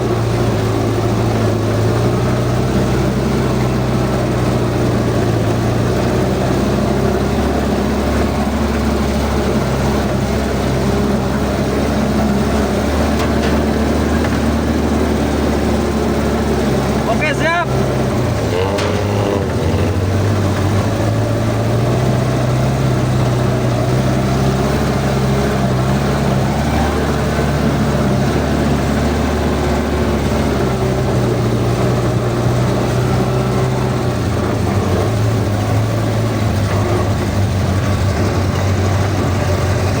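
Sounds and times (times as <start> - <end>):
vehicle engine droning: 0.0 - 40.0.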